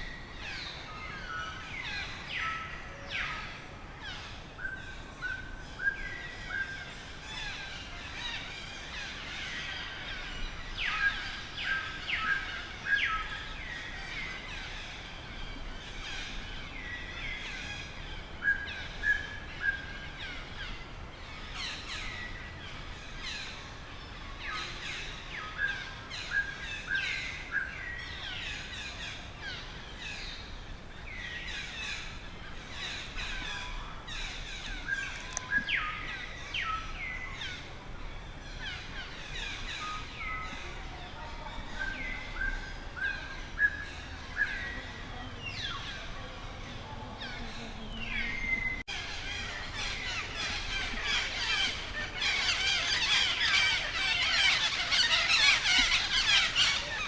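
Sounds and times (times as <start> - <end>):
birds chirping and calling: 0.0 - 57.0.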